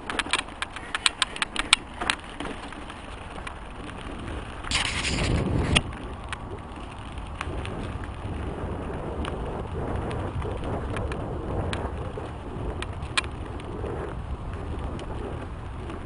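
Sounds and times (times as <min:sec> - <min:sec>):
bike clicks and rattles: 0:00.0 - 0:16.0
bike tyres on dirt and gravel: 0:00.0 - 0:16.0
wind rumbling on microphone: 0:00.0 - 0:16.0.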